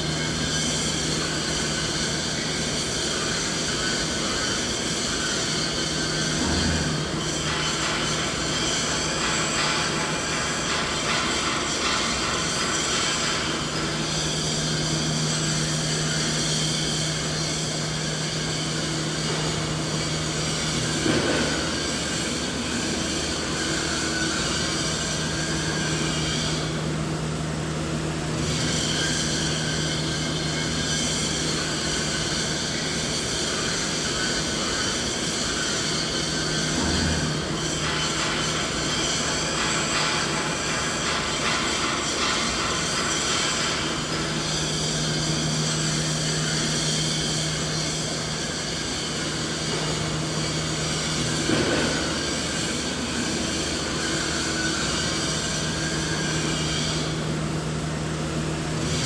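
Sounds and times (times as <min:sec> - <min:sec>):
machinery hum and rushing noise: 0:00.0 - 0:59.0.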